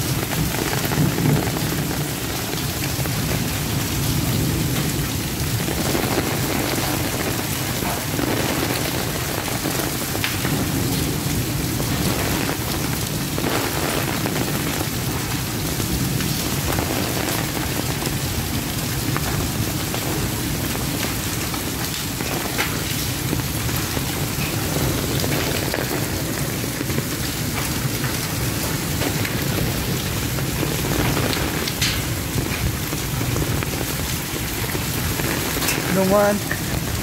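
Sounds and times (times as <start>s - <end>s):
heavy rain drumming on an umbrella: 0.0s - 37.0s
sharp rain taps: 0.0s - 37.0s.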